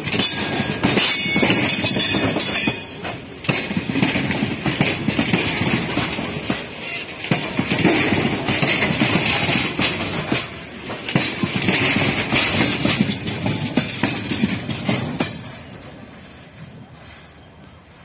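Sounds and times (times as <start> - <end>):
train wheels clattering over rail joints: 0.0 - 17.6.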